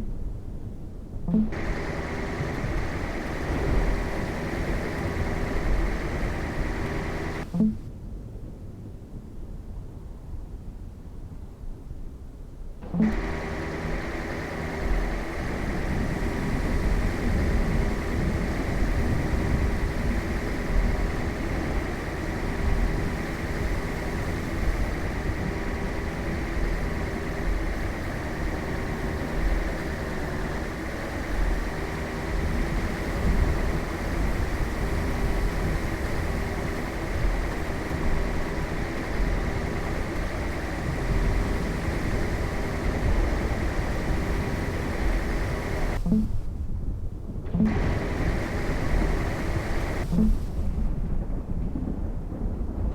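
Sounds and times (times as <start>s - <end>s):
vehicle engine and road rumble: 0.0s - 7.9s, 12.8s - 52.9s
faint steady whine: 1.2s - 7.9s, 12.8s - 52.9s.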